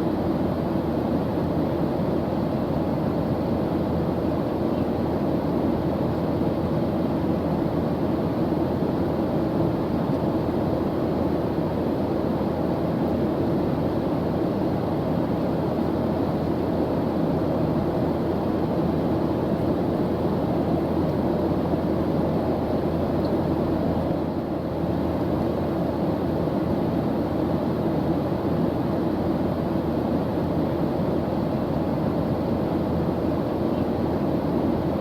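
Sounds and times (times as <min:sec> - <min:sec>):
airliner engine drone in cabin: 0:00.0 - 0:35.0.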